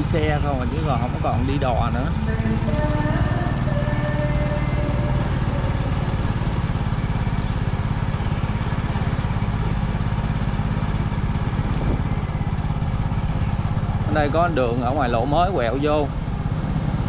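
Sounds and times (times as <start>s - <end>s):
motorbike engine cruising: 0.0s - 17.0s
road and wind noise: 0.0s - 17.0s.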